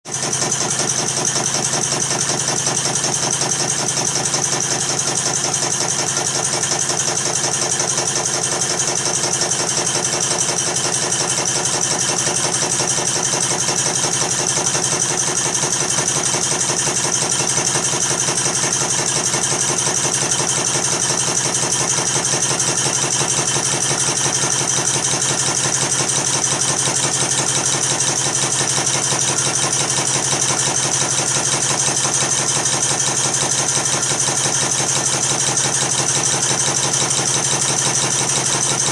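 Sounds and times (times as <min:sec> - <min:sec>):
model steam engine chuffing: 0:00.1 - 0:38.9.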